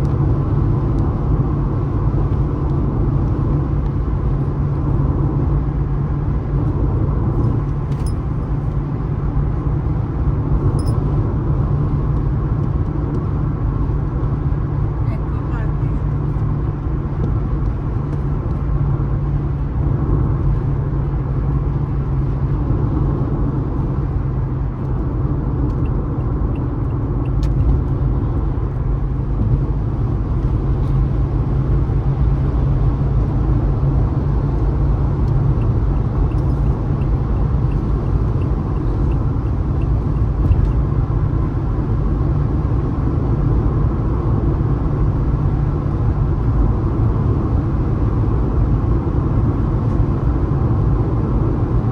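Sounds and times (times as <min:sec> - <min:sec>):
car engine: 0:00.0 - 0:51.9
tyre road noise: 0:00.0 - 0:51.9.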